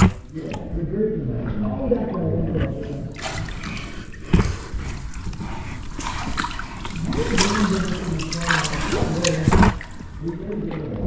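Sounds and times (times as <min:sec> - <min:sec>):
water splashing and sloshing: 0:00.0 - 0:11.0
person speaking: 0:00.3 - 0:11.0.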